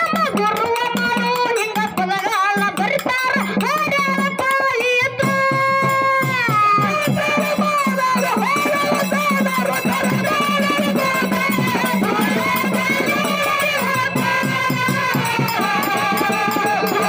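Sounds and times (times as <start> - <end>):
drum beat: 0.0 - 17.0
hand cymbals: 0.0 - 17.0
man singing into a microphone: 0.0 - 17.0.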